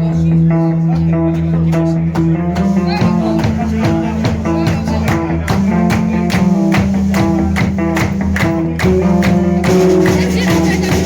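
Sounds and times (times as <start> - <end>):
live band music: 0.9 - 11.0.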